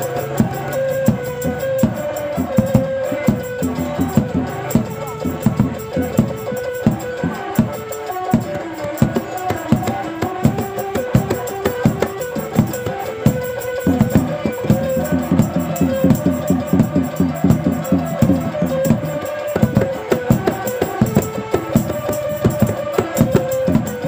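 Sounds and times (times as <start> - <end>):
hand drums in fast rhythm: 0.0 - 24.0
held melody line: 0.0 - 24.0.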